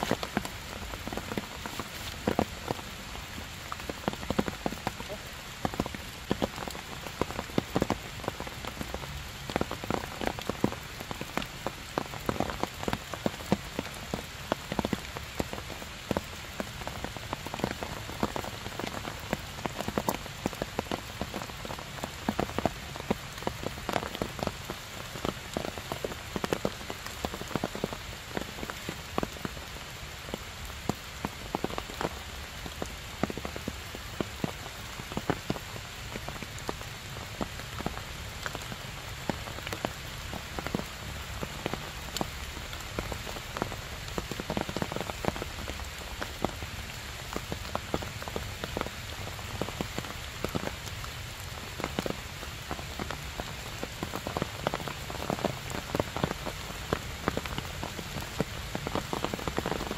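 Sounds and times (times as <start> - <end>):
heavy rain on stone and leaves: 0.0 - 59.9
raindrops ticking close by: 0.0 - 59.9.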